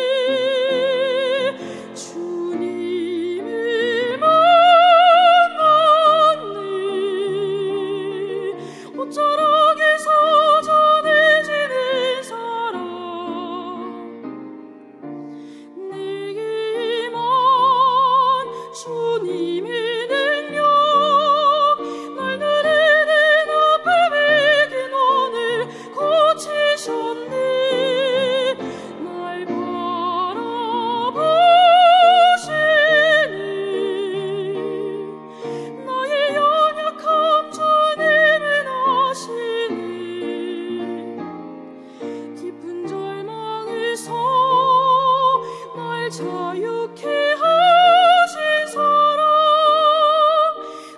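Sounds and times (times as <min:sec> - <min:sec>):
soprano singing operatically: 0:00.0 - 0:14.3, 0:15.4 - 0:41.3, 0:42.0 - 0:50.9.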